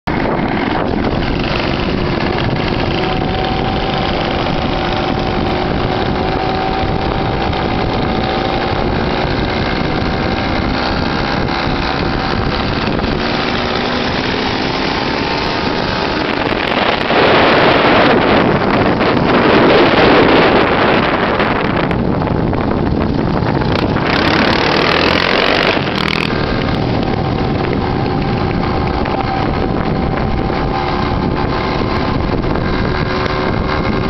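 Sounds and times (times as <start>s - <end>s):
motorcycle engines droning: 0.0s - 34.0s
wind rushing on microphone: 0.0s - 34.0s.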